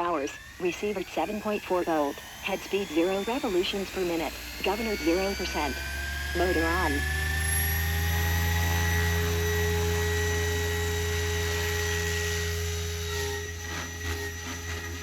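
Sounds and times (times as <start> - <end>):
electric motor whine: 0.0 - 15.0
rc helicopter rotor hum: 0.0 - 15.0.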